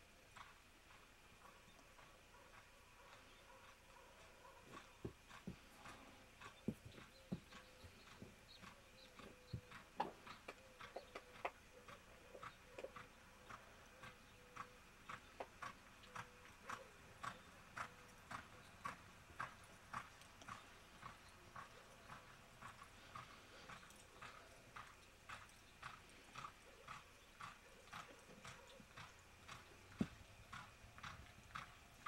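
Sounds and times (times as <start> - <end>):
faint hoofbeats on dirt: 0.0 - 32.0.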